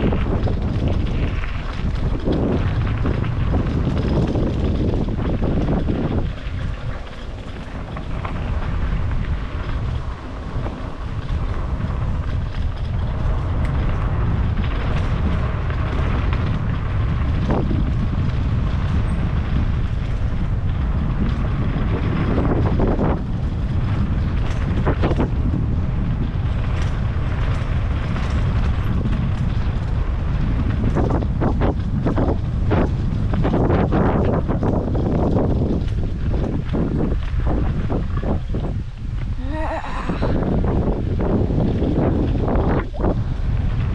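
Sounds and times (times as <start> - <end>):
wind noise on microphone: 0.0 - 43.9.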